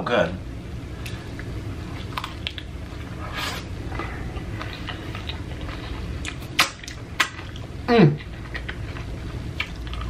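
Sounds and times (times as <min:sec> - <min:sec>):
steady low hum: 0:00.0 - 0:10.0
person chewing with wet smacks: 0:01.0 - 0:03.1, 0:04.0 - 0:10.0.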